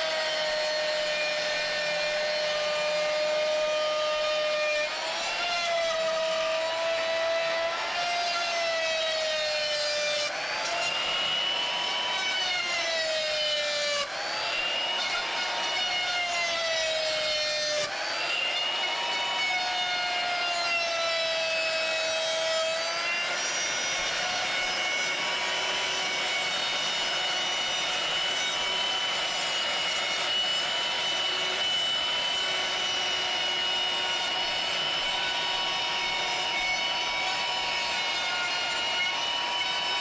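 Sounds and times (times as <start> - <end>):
power tool motor whining: 0.0 - 40.0.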